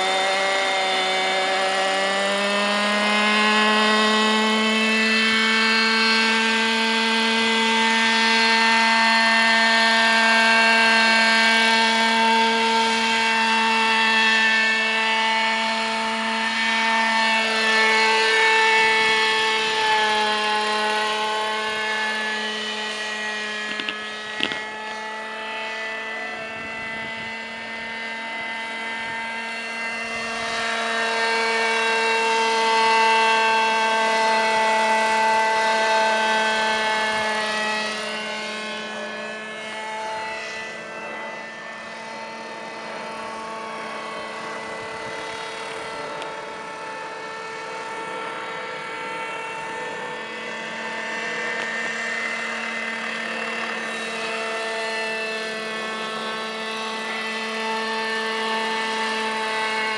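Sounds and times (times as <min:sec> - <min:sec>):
model helicopter engine and rotors: 0:00.0 - 0:59.9.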